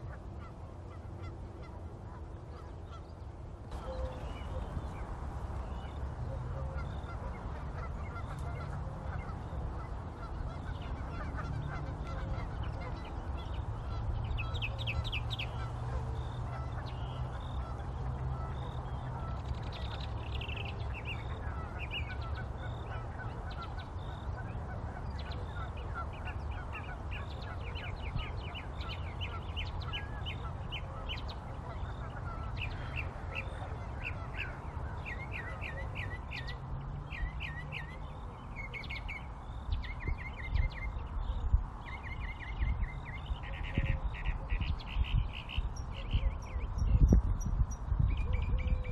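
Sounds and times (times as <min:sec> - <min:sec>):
small songbirds chirping: 0:02.8 - 0:48.9.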